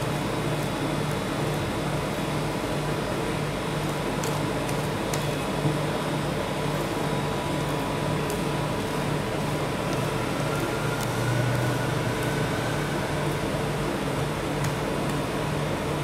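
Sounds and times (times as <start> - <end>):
refrigeration unit humming: 0.0 - 16.0.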